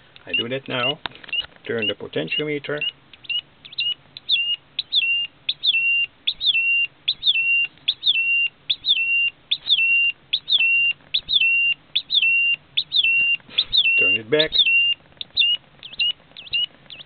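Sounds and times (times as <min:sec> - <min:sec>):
electronic siren chirp: 0:03.2 - 0:17.0.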